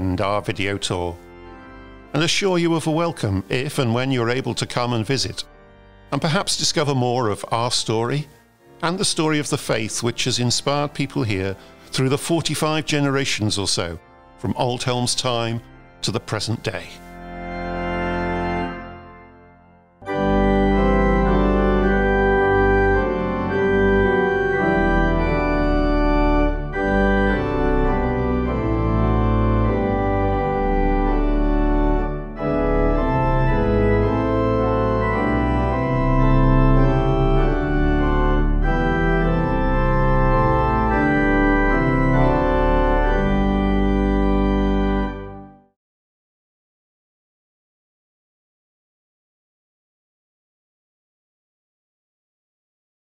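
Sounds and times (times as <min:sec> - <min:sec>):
organ chords: 0:00.0 - 0:45.8.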